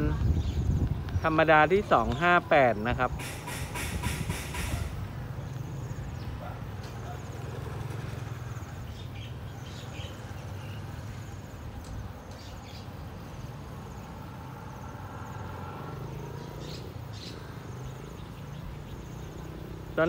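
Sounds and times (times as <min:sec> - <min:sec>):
birds chirping: 0:00.0 - 0:20.0
insects trilling: 0:01.3 - 0:20.0.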